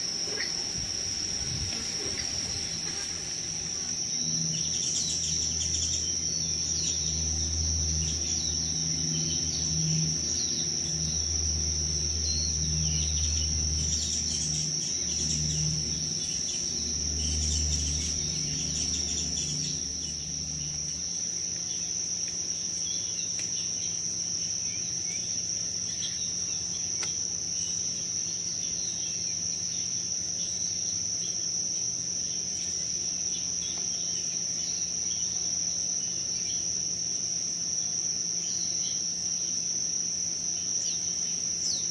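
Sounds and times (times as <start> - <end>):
faint insect chirps: 0.0 - 41.9
insects chirring drone: 0.0 - 41.9.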